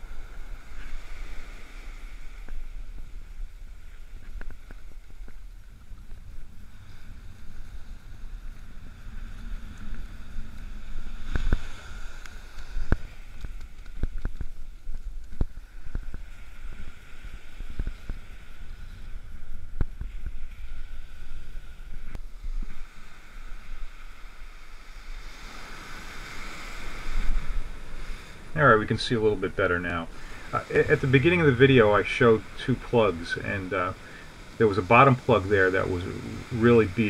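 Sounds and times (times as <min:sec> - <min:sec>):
ocean surf washing up beach: 0:00.0 - 0:37.0
wind buffeting microphone: 0:00.0 - 0:37.0.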